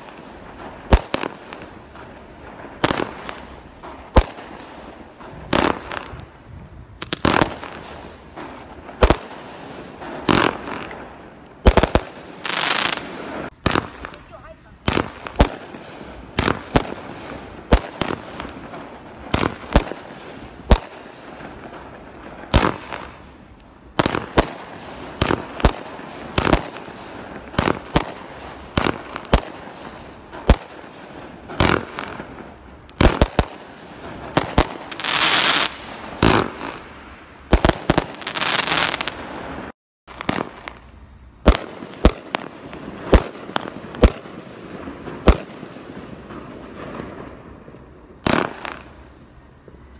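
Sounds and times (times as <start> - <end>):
fireworks launching and bursting: 0.0 - 49.9.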